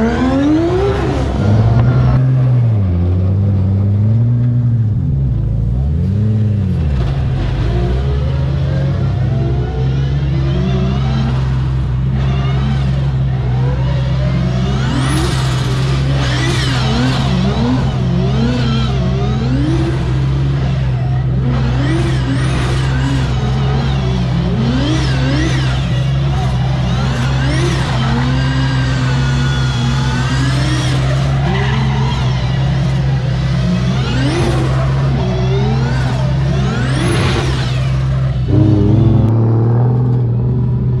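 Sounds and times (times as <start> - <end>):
car engine revving hard: 0.0 - 5.0, 5.8 - 41.0
low engine drone: 0.0 - 16.2, 16.8 - 41.0.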